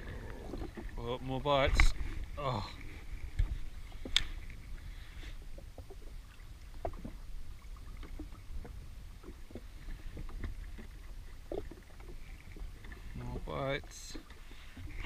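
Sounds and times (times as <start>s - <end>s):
small waves lapping against hull: 0.0s - 15.0s.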